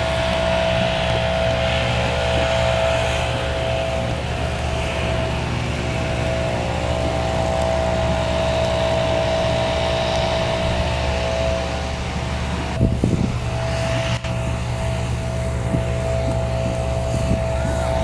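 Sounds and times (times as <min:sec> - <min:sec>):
motor vehicle engine drone: 0:00.0 - 0:18.0.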